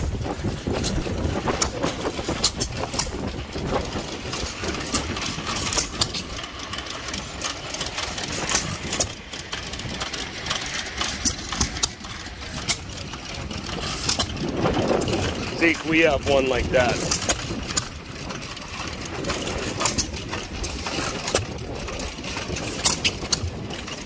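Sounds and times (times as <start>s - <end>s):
sharp clicks and knocks: 0.0s - 24.0s
stationary gas engines running: 0.0s - 24.0s.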